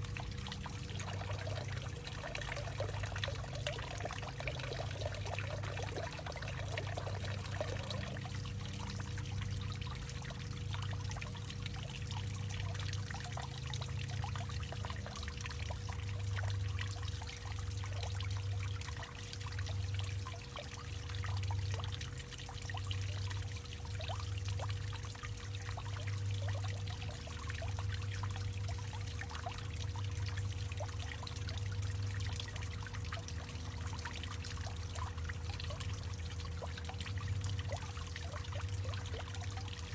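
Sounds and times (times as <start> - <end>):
faint steady tone: 0.0 - 39.9
low hollow hum: 0.0 - 39.9
water trickling into hollow trunk: 0.0 - 39.9.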